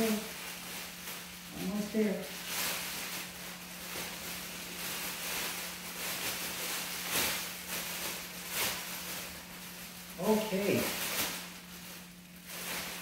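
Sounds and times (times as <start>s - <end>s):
plastic crinkling and rustling: 0.0s - 13.0s
steady low hum: 0.0s - 13.0s.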